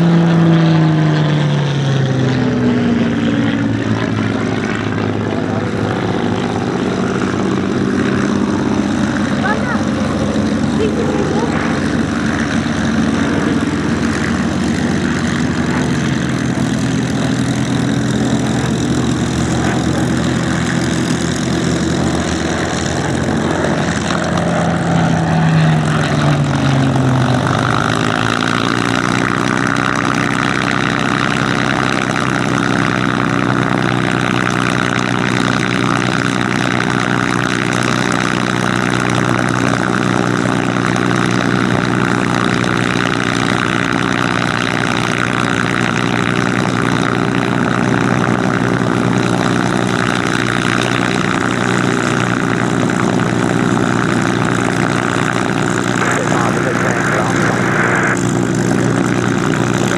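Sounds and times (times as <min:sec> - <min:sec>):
aircraft engines idling: 0:00.0 - 0:59.9.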